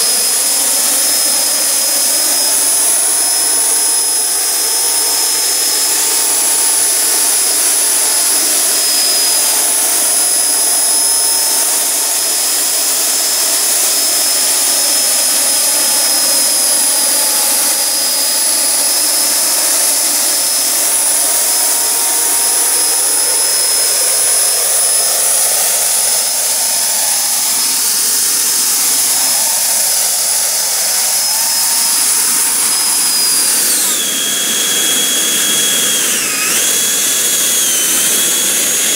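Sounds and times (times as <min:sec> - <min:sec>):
electric fans whining: 0:00.0 - 0:38.9.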